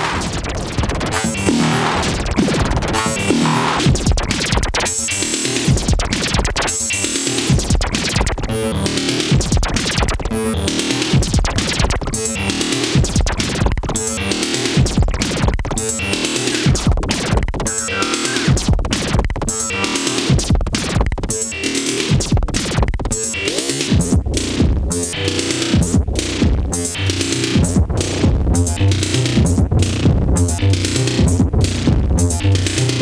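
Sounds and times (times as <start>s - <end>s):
electronic beat on modular synthesizer: 0.0s - 33.0s.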